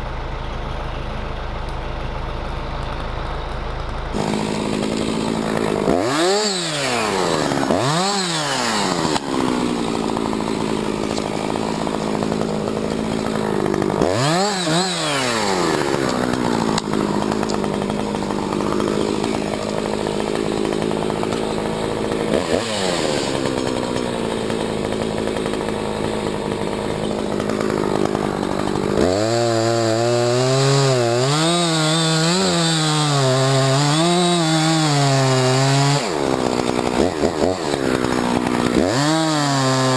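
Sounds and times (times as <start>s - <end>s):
chainsaw cutting wood: 1.6s - 39.9s
chainsaw revving: 3.9s - 39.9s.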